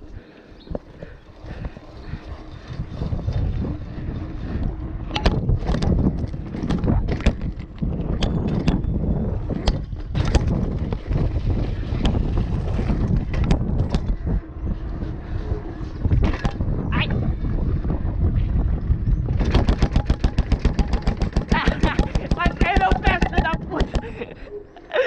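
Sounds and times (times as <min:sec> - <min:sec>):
bike knocking and rattling: 0:00.0 - 0:25.0
wind buffeting microphone: 0:00.0 - 0:25.0.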